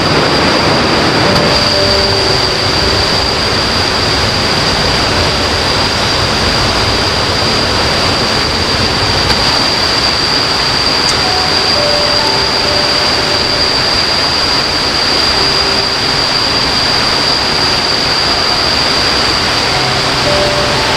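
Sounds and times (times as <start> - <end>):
high-pitched whine: 0.0 - 20.9
river water rushing: 0.0 - 20.9.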